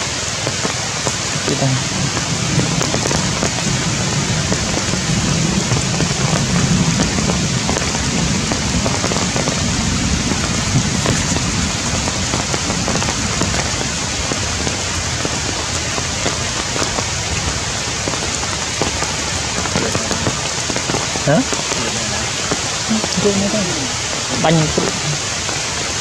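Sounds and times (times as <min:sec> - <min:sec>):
heavy rain on forest canopy: 0:00.0 - 0:26.0
raindrops striking close by: 0:00.0 - 0:26.0.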